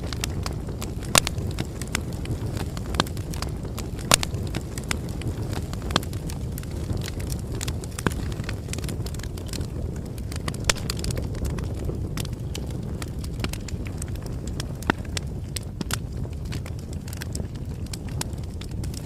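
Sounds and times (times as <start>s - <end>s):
bonfire crackling: 0.0s - 19.0s
wood popping and snapping: 0.0s - 19.0s.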